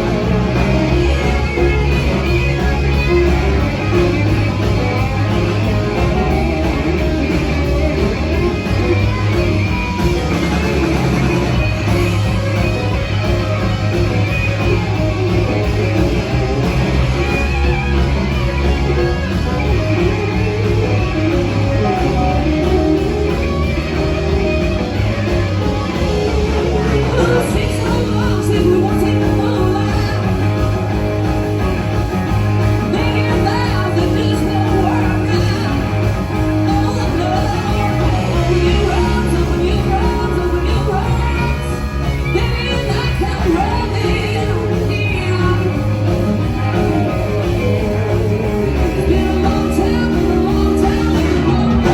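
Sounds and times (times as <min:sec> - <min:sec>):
rock and roll band playing: 0:00.0 - 0:51.9.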